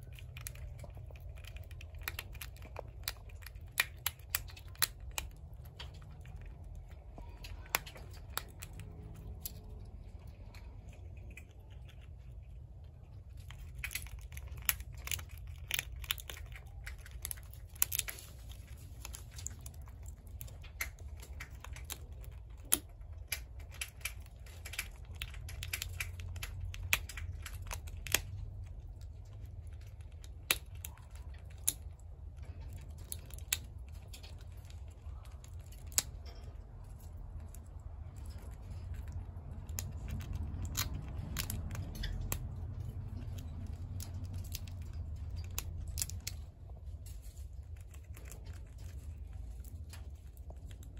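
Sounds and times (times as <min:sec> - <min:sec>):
low steady hum: 0:00.0 - 0:50.9
squirrel gnawing a nut shell: 0:00.0 - 0:50.9.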